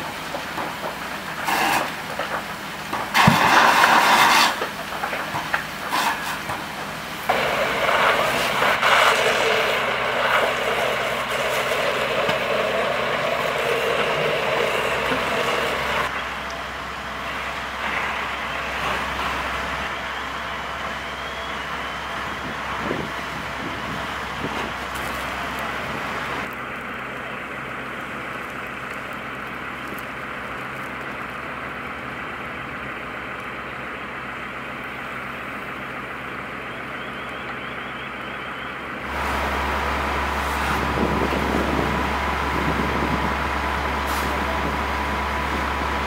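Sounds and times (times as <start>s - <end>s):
fire truck engines droning: 0.0s - 46.0s.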